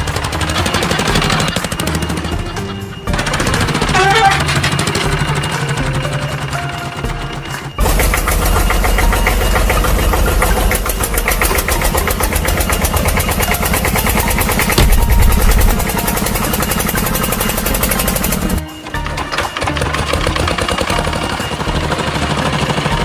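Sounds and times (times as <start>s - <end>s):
engine chugging: 0.0s - 23.0s.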